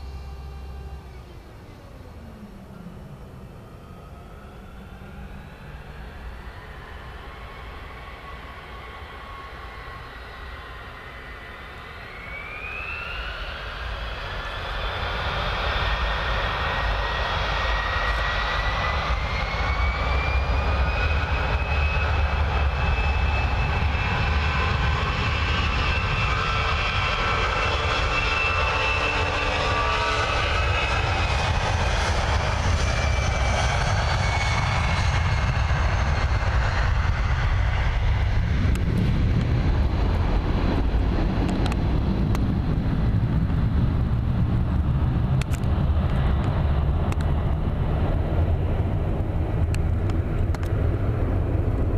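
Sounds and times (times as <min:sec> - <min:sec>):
jet engines spooling up: 0:00.0 - 0:51.9.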